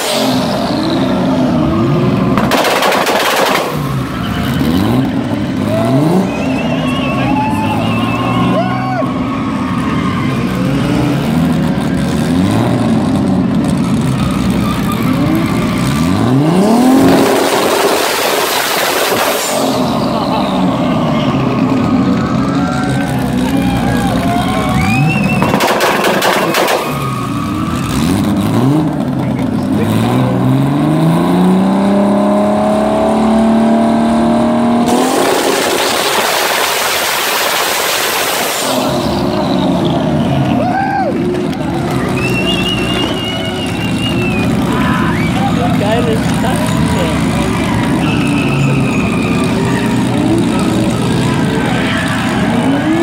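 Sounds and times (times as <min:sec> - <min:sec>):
car engine revving: 0:00.0 - 0:08.6, 0:09.3 - 0:53.0
loud noisy exhaust: 0:00.0 - 0:53.0.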